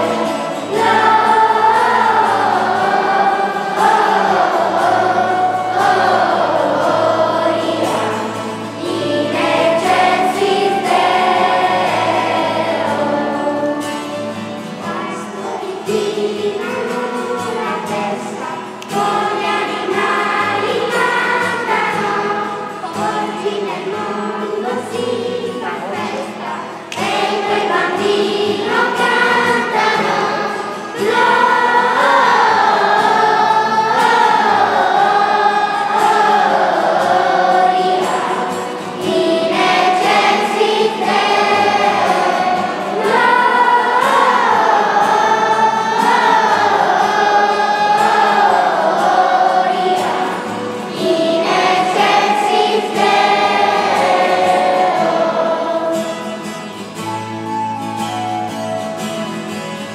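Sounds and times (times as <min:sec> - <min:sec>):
children's choir singing: 0:00.0 - 0:59.9.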